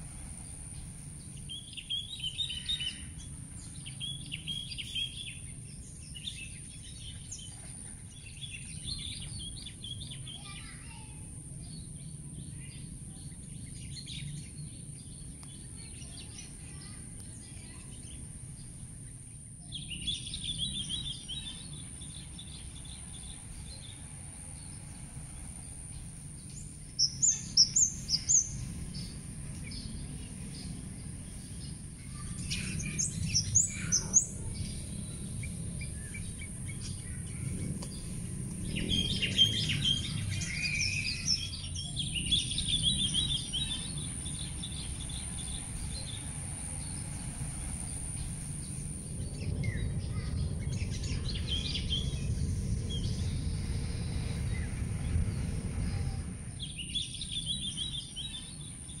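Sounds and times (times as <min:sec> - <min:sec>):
steady low rumble: 0:00.0 - 0:10.5, 0:11.1 - 0:59.0
constant high hiss: 0:00.0 - 0:59.0
garden birds chirping and singing: 0:00.0 - 0:59.0.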